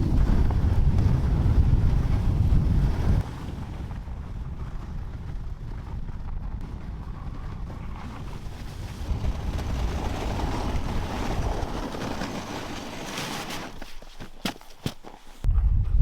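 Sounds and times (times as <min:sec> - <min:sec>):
wind buffeting microphone: 0:00.0 - 0:12.6, 0:15.4 - 0:16.0
sled travel noise: 0:00.0 - 0:15.8.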